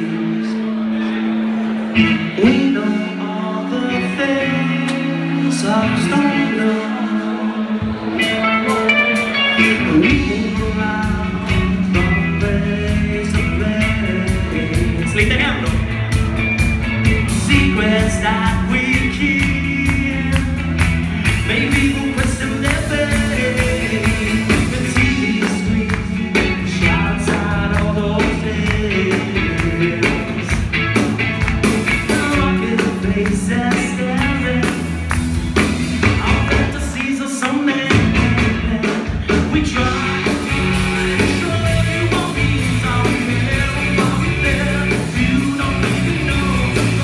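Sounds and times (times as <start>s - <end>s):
vocalist singing: 0.0s - 15.9s, 17.0s - 30.8s, 31.6s - 47.0s
rock band playing live: 0.0s - 47.0s.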